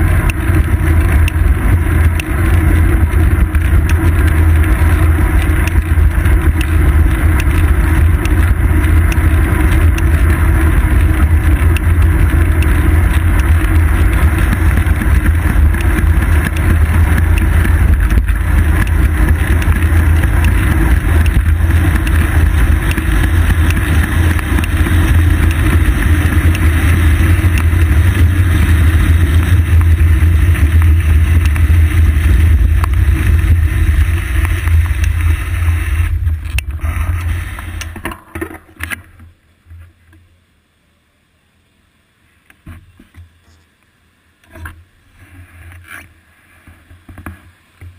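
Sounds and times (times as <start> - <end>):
bicycle road rumble: 0.0 - 47.9.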